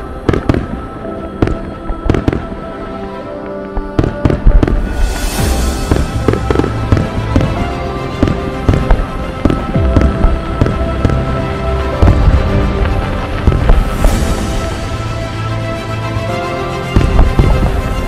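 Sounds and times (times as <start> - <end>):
background music: 0.0 - 18.0
hissing crackle of bursting stars: 0.0 - 18.0.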